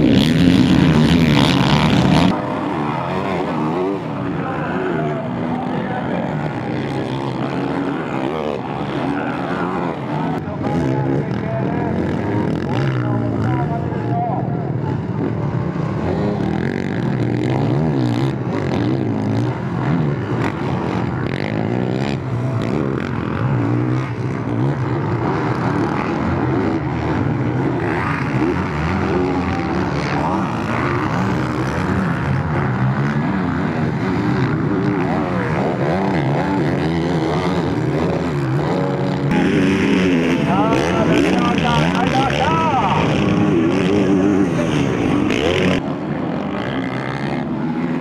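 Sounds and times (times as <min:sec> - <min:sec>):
motocross engines revving: 0:00.0 - 0:48.0.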